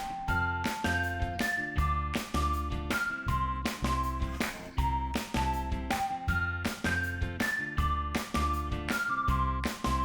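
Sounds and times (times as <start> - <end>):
upbeat keyboard music with beat: 0.0 - 10.0.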